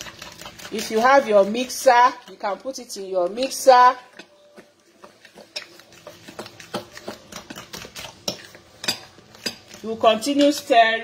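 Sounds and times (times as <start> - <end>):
fork stirring batter in glass bowl: 0.0 - 11.0.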